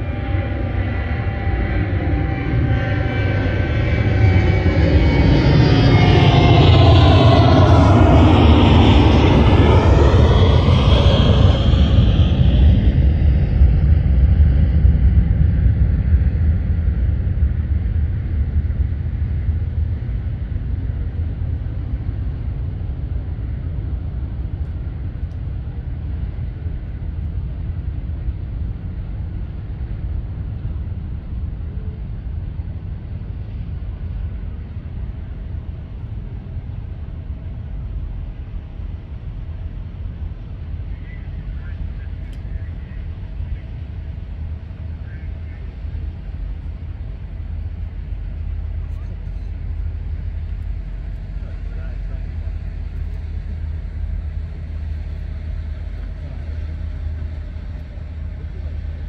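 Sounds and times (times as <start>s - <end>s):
jet engine roar: 0.0s - 59.0s
low jet rumble: 0.0s - 59.0s.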